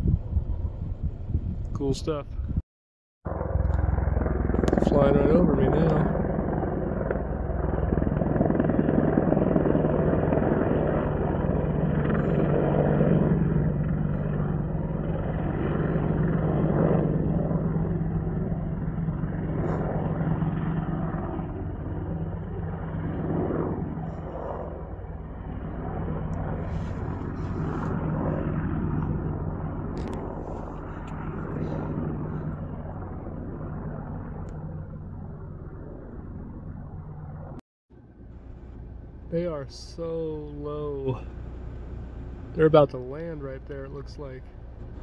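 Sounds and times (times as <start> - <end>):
helicopter flying overhead: 0.0 - 2.6, 3.3 - 45.0.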